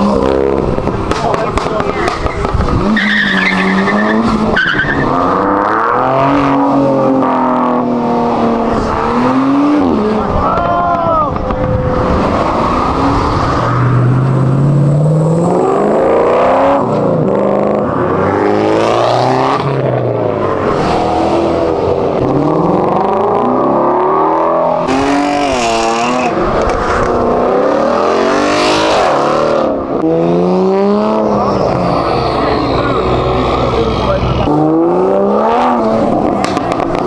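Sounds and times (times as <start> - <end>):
cars accelerating hard: 0.0 - 37.0.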